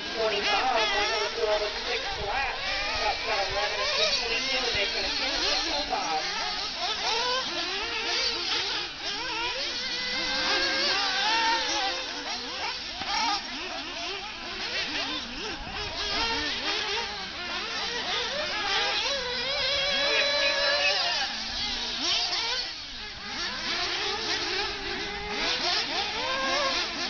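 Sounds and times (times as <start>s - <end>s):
rc buggy engines revving: 0.0s - 27.0s.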